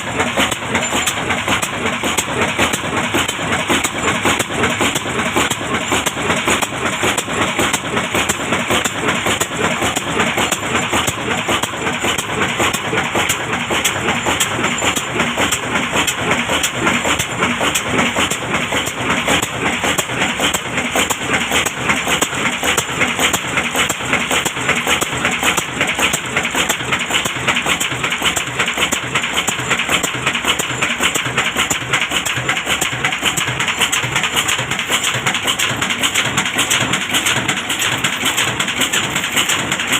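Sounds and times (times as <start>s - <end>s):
diesel engine knocking under load: 0.0s - 39.9s.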